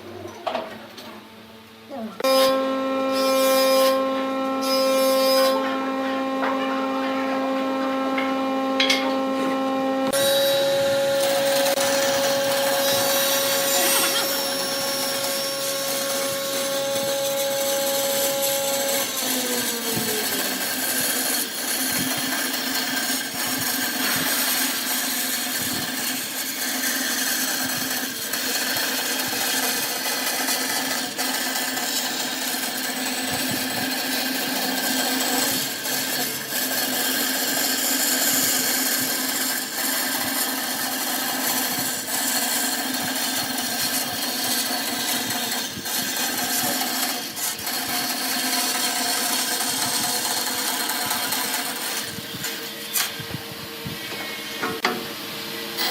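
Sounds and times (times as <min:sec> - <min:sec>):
lathe motor whining: 0:01.7 - 0:55.9
turning tool cutting wood: 0:02.2 - 0:53.3.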